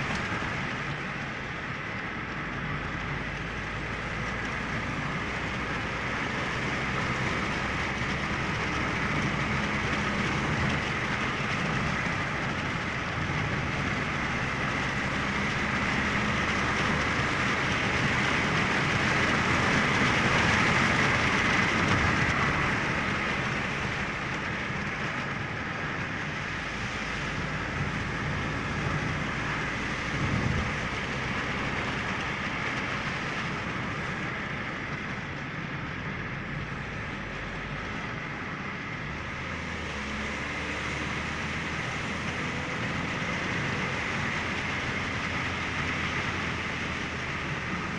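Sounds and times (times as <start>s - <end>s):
moving vehicle rushing: 0.0s - 47.9s.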